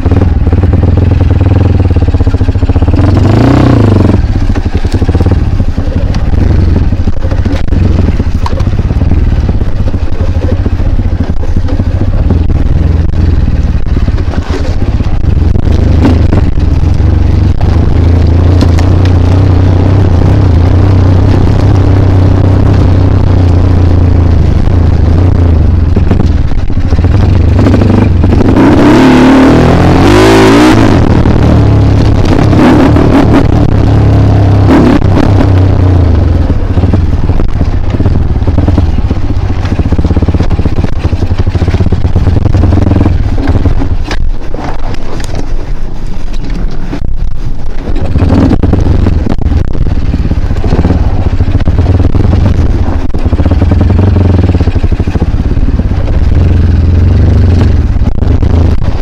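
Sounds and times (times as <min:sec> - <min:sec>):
motorbike engine revving: 0:00.0 - 0:45.5, 0:46.9 - 0:59.0.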